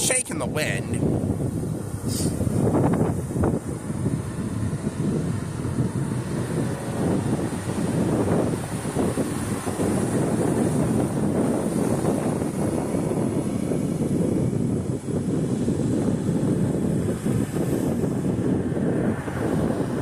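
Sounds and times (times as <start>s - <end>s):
wind blowing across microphone: 0.0s - 20.0s.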